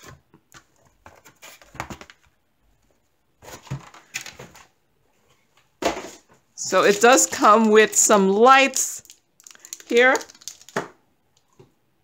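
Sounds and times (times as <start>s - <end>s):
cardboard and plastic rustling: 0.0s - 8.1s, 9.0s - 11.6s.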